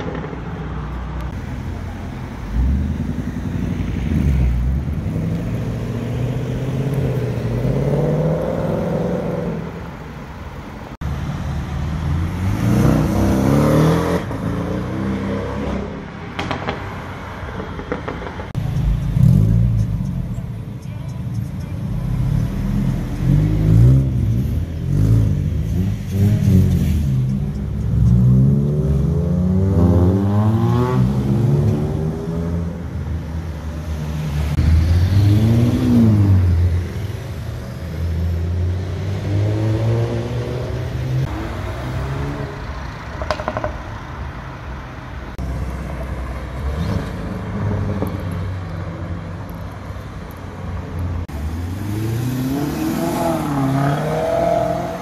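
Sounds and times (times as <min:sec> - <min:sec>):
sports car engines revving: 0:00.0 - 0:55.0.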